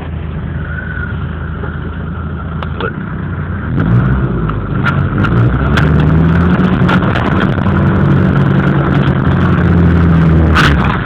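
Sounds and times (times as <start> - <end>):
vehicle engine revving: 0.6 - 11.0.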